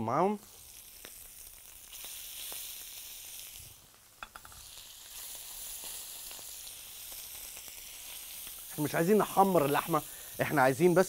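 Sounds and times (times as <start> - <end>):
beef sizzling in frying pan: 0.0 - 11.0.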